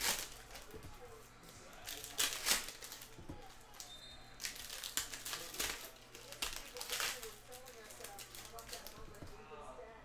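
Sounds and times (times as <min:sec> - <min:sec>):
foil wrapper crinkling and tearing: 0:00.0 - 0:01.1, 0:01.7 - 0:09.2.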